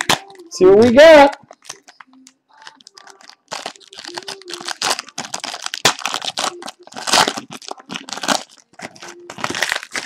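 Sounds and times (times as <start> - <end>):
wrapper tearing and crinkling: 0.0 - 10.0.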